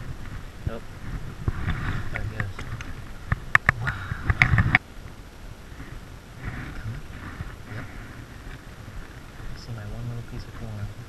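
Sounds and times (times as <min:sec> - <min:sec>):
faint hiss of moving water: 0:00.0 - 0:11.0.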